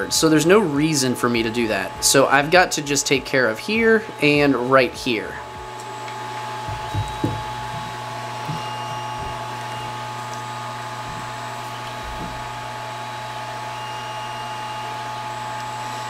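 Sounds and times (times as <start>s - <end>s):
motor hum with thin whine: 0.0s - 16.0s.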